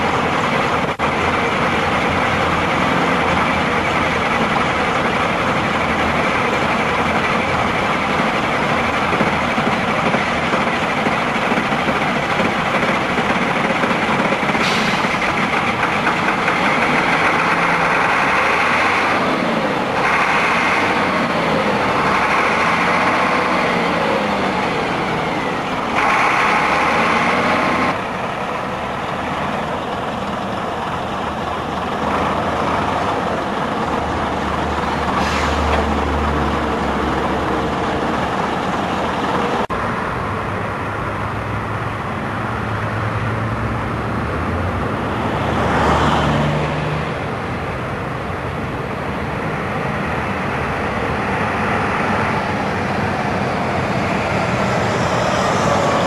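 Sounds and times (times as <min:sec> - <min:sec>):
bus diesel engine revving: 0:00.0 - 0:40.0, 0:41.0 - 0:56.0.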